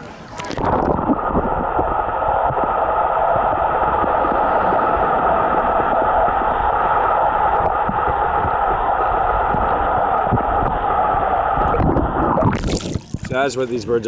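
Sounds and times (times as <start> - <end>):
muffled underwater noise: 0.0 - 14.0.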